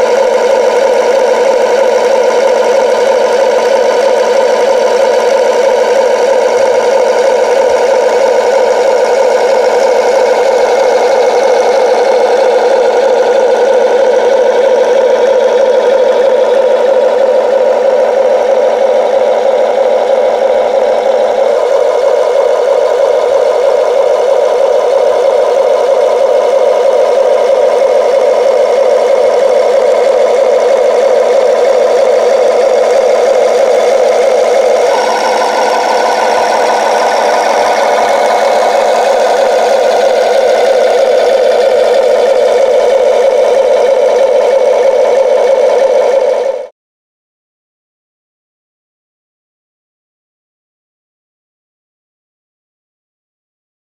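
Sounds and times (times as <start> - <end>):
simulated diesel engine idling: 0.0 - 46.7.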